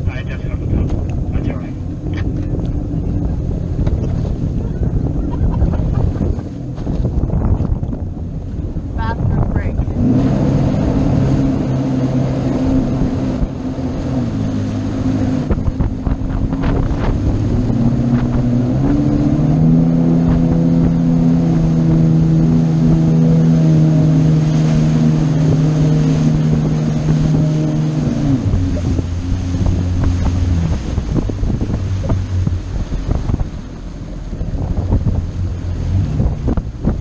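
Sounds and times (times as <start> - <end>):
boat engine running: 0.0 - 37.0
water noise: 0.0 - 37.0
wind: 0.0 - 37.0.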